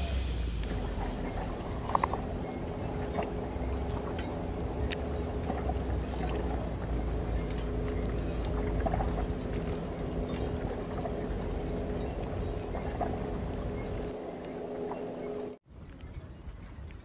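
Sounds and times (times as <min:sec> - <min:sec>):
low engine rumble: 0:00.0 - 0:16.7.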